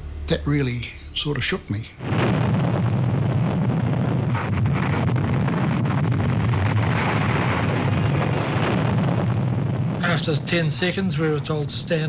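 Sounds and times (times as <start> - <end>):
deep rumble of bomb blast: 2.0 - 12.0.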